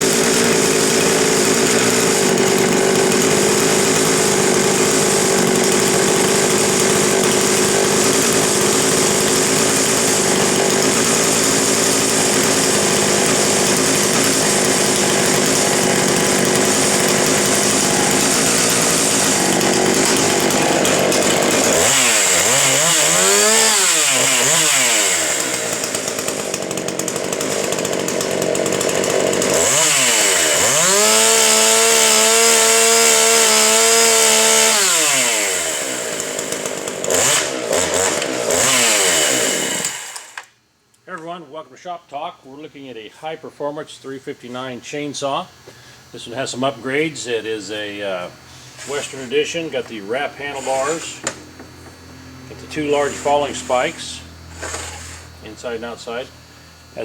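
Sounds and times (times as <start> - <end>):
chainsaw running and revving: 0.0 - 40.5, 47.2 - 56.3.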